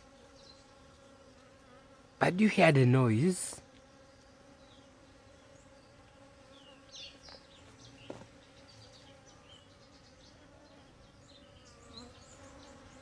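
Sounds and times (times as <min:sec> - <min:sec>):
honeybees humming: 0:00.0 - 0:13.0.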